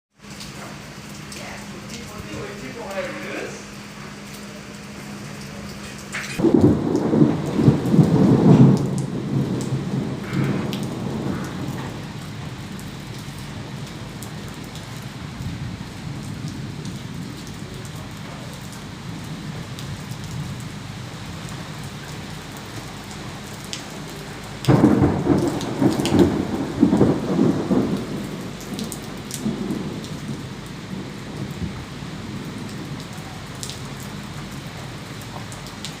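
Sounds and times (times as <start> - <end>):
raindrops ticking close by: 0.1 - 36.0
steady rain falling: 0.1 - 36.0
thunder crack and rumble: 6.2 - 36.0.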